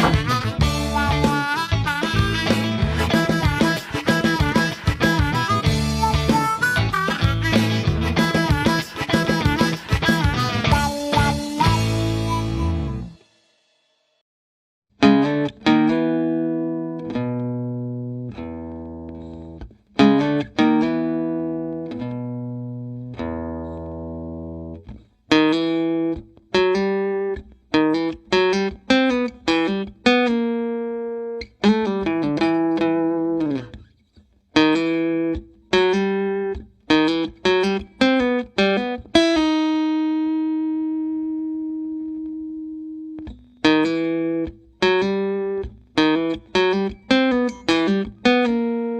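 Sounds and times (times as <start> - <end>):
plucked guitar music: 0.0 - 13.2, 15.0 - 48.9.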